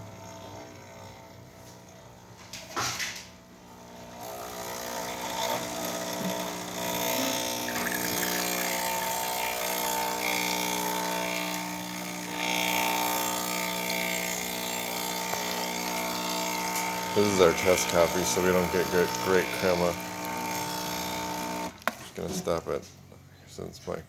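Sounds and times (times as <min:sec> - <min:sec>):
espresso machine pump humming: 0:00.0 - 0:23.1.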